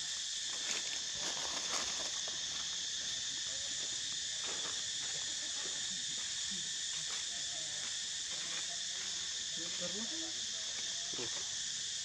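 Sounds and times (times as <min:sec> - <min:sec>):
high-pitched insect chorus drone: 0:00.0 - 0:12.0.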